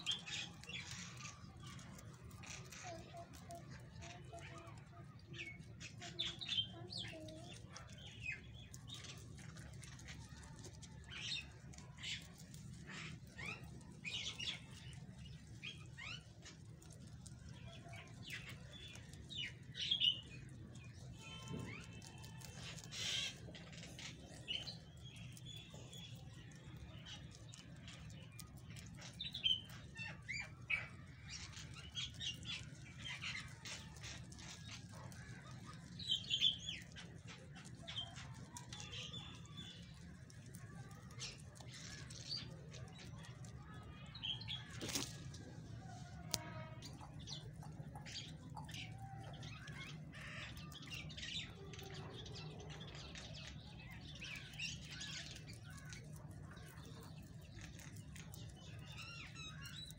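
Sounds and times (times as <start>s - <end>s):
rabbits chewing leafy greens: 0.0s - 59.9s
small birds chirping: 0.0s - 59.9s.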